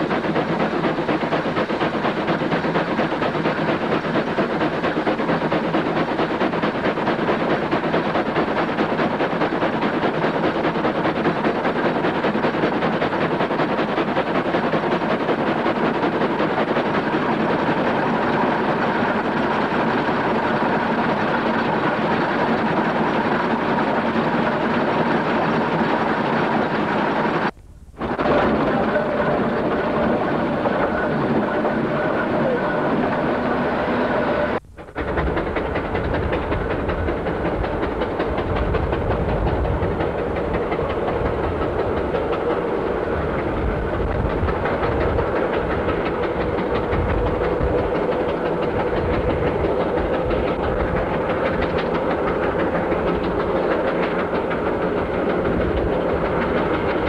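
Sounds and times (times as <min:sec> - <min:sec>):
steam engine mechanical clatter: 0:00.0 - 0:57.0
steam hissing: 0:00.0 - 0:57.0.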